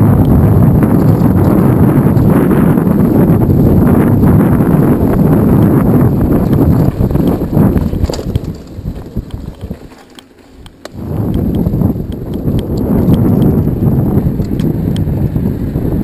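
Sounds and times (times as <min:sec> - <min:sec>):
bike and tyres rattling: 0:00.0 - 0:16.0
wind buffeting microphone: 0:00.0 - 0:16.0.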